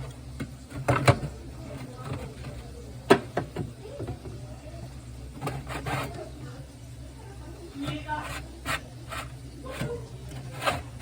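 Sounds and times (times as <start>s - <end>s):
faint voices: 0.6s - 11.0s.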